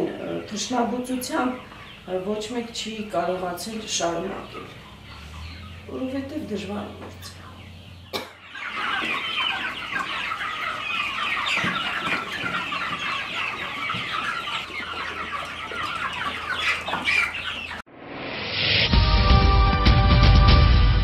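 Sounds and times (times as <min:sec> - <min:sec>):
chickens cheeping: 0:00.0 - 0:17.9.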